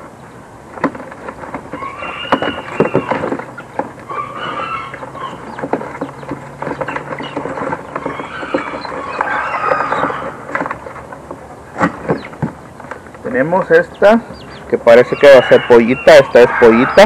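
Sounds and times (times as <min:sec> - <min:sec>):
chickens clucking and squawking: 0:00.0 - 0:17.0.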